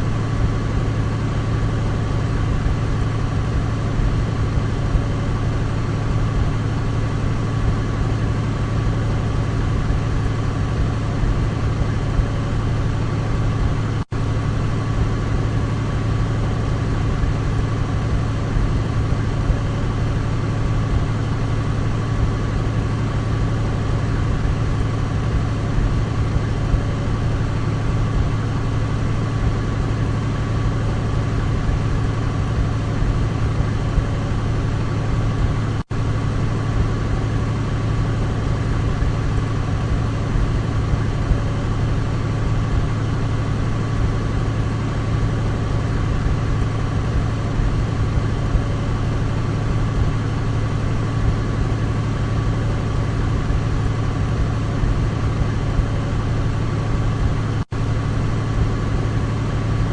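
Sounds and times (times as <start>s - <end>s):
high engine whine: 0.0s - 59.9s.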